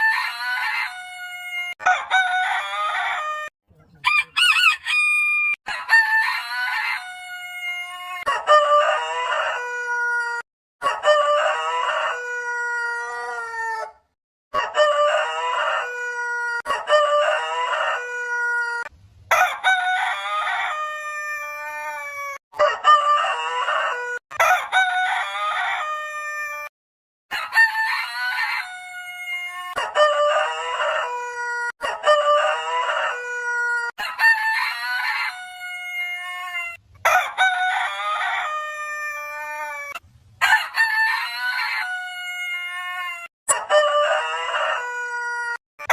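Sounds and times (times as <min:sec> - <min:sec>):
roosters crowing: 0:00.0 - 0:14.0, 0:14.6 - 0:26.7, 0:27.3 - 0:45.9.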